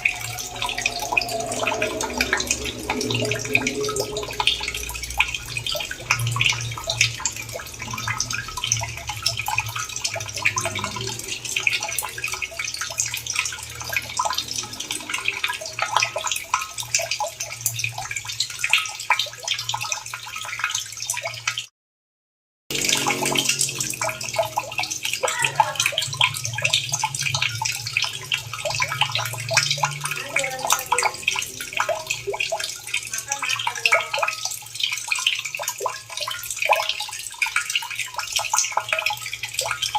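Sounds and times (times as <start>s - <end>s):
running water splashing: 0.0s - 21.6s, 22.7s - 39.9s.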